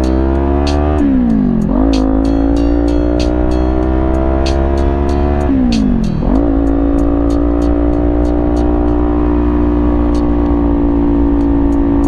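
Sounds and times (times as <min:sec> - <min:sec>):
motorcycle engine while riding: 0:00.0 - 0:12.0.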